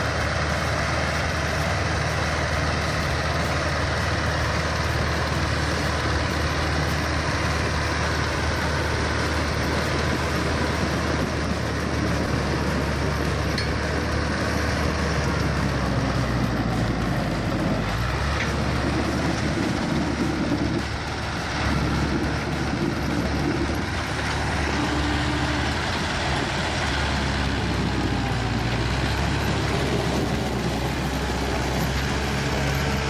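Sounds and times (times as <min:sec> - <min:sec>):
truck engine running under load: 0:00.0 - 0:33.0.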